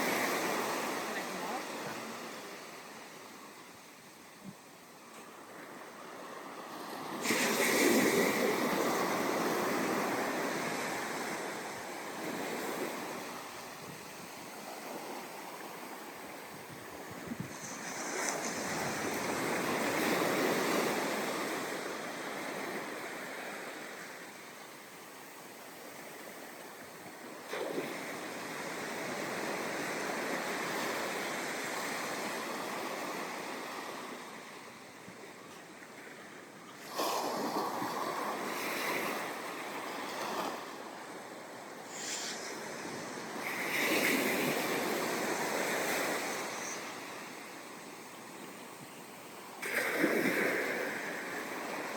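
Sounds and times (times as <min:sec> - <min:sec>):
ocean waves breaking on beach: 0:00.0 - 0:51.9.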